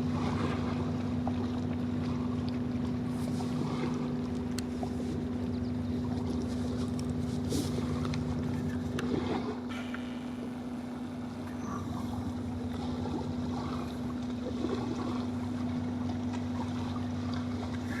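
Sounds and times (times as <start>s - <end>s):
boat diesel engines droning: 0.0s - 18.0s.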